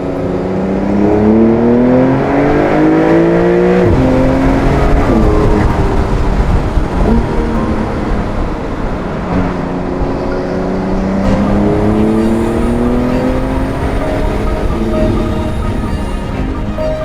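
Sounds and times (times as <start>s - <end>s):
road and wind rumble: 0.0s - 17.0s
car engine accelerating: 0.4s - 16.9s.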